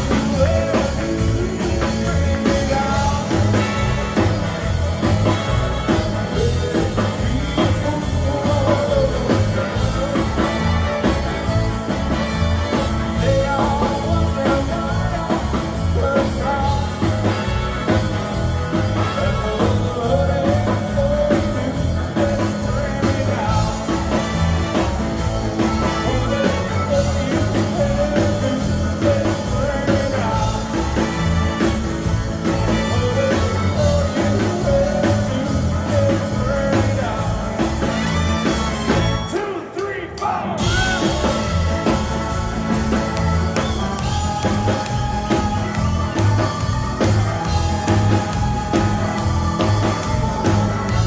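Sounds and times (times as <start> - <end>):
lead vocal singing: 0.0 - 51.0
live rock band playing: 0.0 - 51.0.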